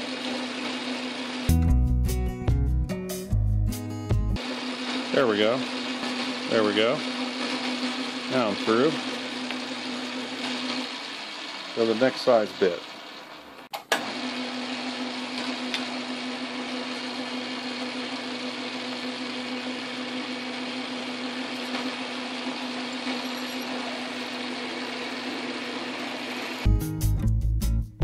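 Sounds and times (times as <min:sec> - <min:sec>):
metal lathe motor hum: 0:00.0 - 0:01.5, 0:04.4 - 0:26.7
drill cutting metal: 0:00.0 - 0:01.6, 0:04.4 - 0:26.7.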